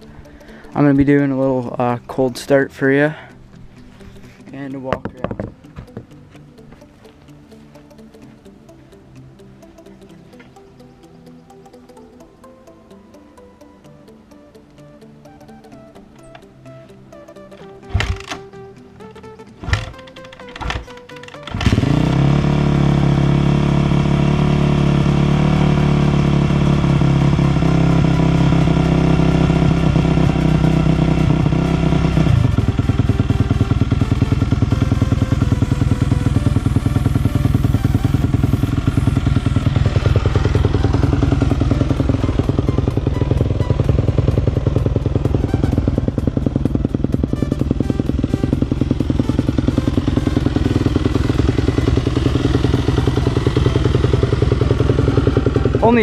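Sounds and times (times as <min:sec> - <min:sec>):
motorcycle engine starting and idling: 0:00.0 - 0:04.0, 0:04.6 - 0:06.8, 0:14.8 - 0:56.0.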